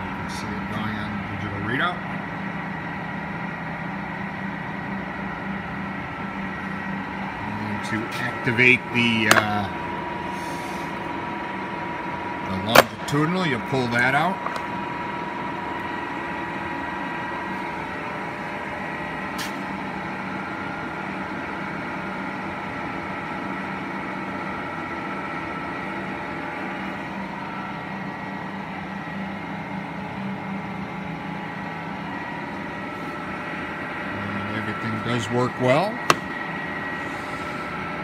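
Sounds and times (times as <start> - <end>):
lathe gear train humming: 0.0 - 38.0.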